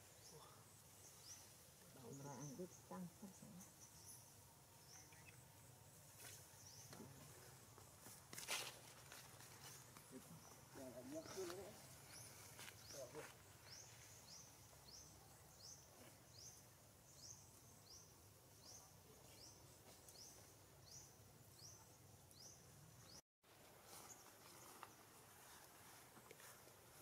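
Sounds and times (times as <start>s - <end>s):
faint outdoor background: 0.0s - 27.0s.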